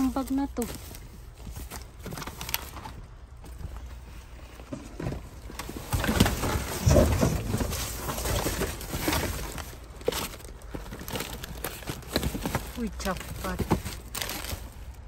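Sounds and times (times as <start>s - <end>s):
hands rummaging through rubbish: 0.0s - 15.0s.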